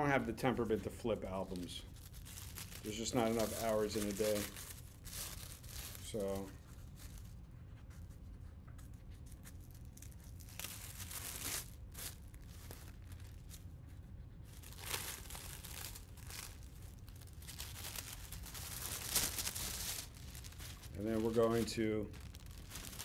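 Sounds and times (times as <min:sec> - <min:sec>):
packing wrap crinkling and tearing: 0:00.8 - 0:07.3, 0:09.4 - 0:13.7, 0:14.5 - 0:23.0.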